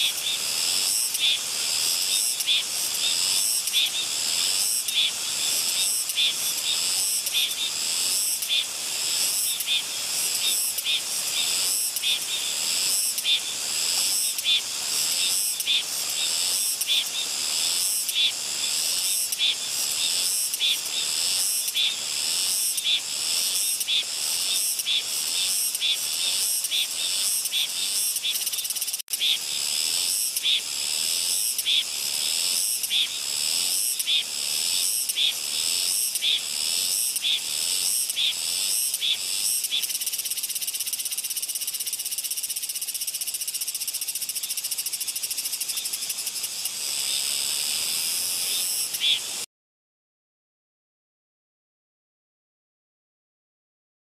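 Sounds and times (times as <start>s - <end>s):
cicada buzzing song: 0.0s - 49.4s.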